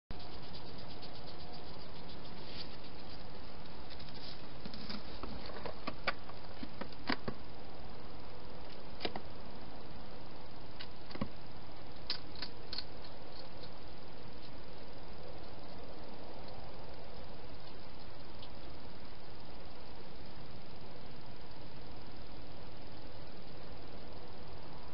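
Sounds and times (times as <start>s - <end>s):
steady hiss: 0.1s - 24.9s.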